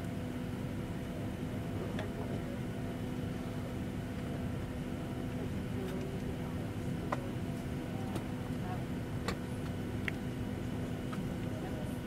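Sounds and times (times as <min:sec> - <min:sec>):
airplane cabin rumble: 0:00.0 - 0:12.0
constant hum: 0:00.0 - 0:12.0.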